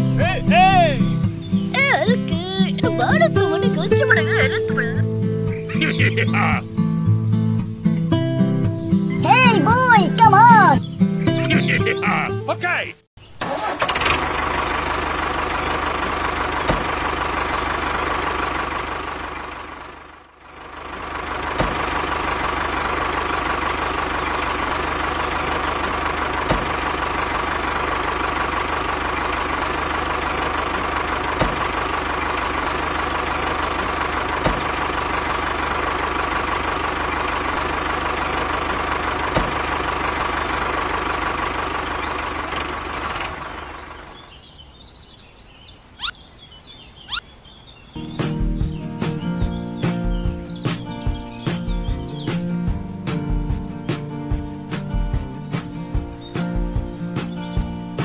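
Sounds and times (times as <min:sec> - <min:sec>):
diesel tractor engine running: 0:00.0 - 0:45.1, 0:45.7 - 0:46.2, 0:46.8 - 0:58.0.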